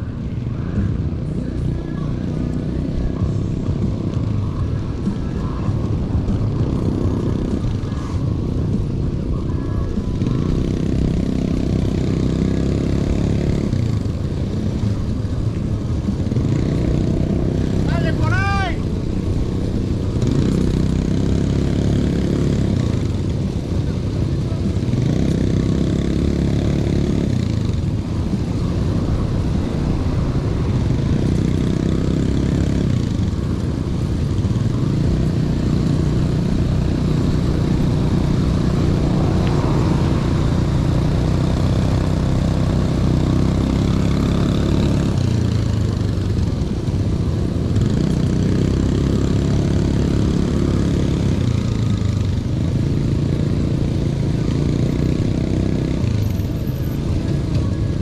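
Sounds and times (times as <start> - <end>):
road noise: 0.0 - 58.0
vehicle engine running: 0.0 - 58.0.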